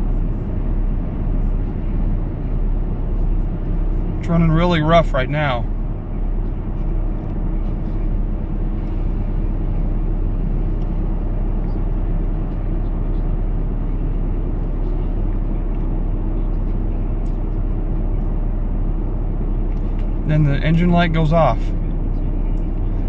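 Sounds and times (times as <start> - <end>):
truck engine running rough: 0.0 - 23.0.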